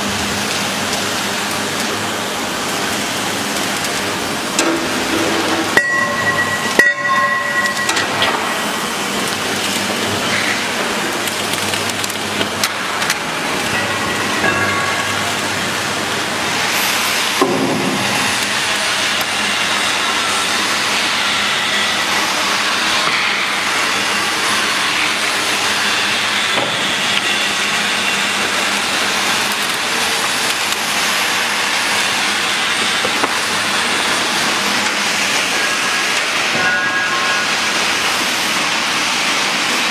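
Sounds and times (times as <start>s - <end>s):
welding machine hissing: 0.0s - 39.9s.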